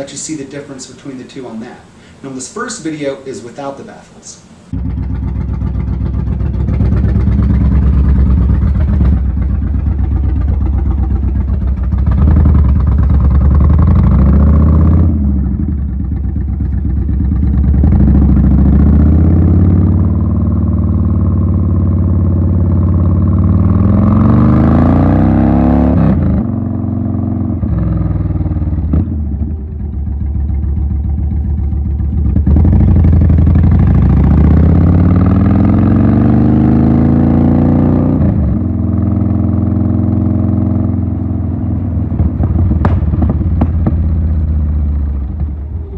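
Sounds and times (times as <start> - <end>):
loud motorcycle engine revving: 4.7 - 45.6.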